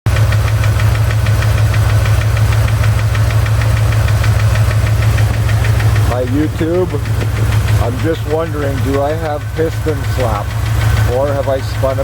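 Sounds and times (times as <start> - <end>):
car engine idling: 0.1 - 12.0
rapid engine ticking: 0.1 - 12.0.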